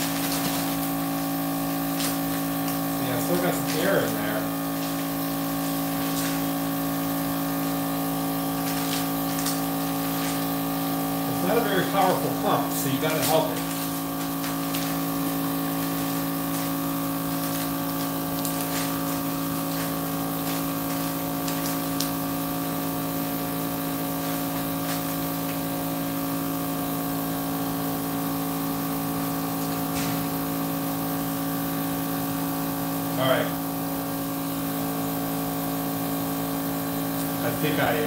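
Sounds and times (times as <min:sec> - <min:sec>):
vacuum sealer pump humming: 0:00.0 - 0:38.0.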